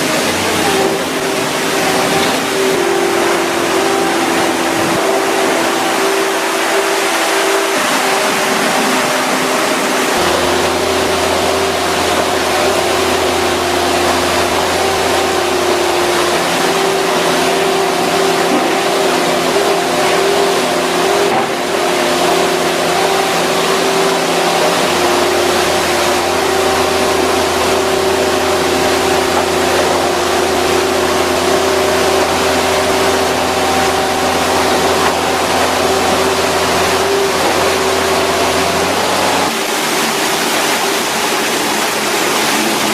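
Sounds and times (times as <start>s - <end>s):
engine humming with hiss: 0.0s - 42.9s.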